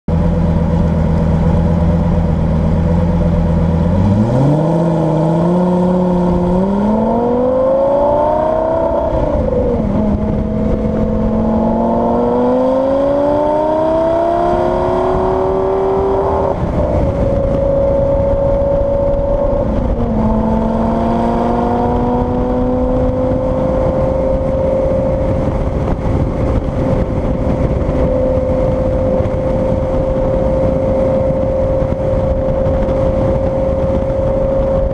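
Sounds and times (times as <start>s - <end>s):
sports car engine revving: 0.1s - 34.9s.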